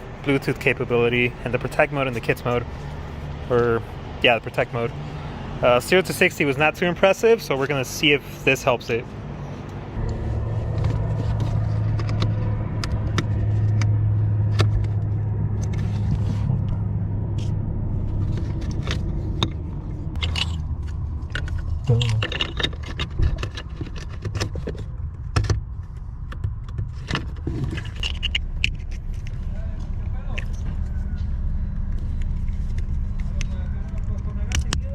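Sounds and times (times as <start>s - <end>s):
car engine and road drone: 0.0s - 34.9s.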